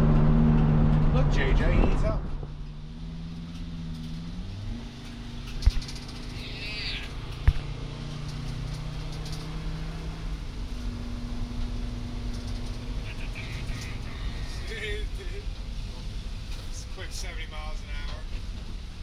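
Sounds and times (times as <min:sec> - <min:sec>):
van engine and road drone: 0:00.0 - 0:19.0.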